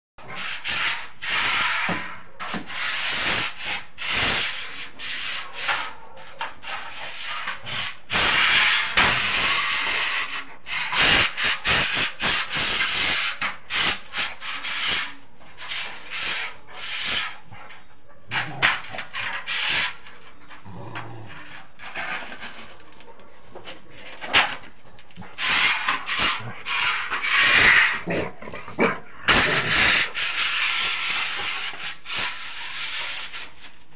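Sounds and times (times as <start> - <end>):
dog claws scrabbling on tiles: 4.6 - 33.9.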